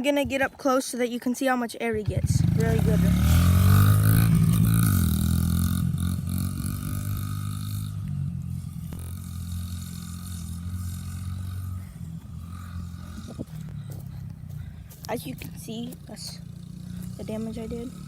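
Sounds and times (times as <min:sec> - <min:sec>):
dirt bike engine running: 0:01.9 - 0:18.0.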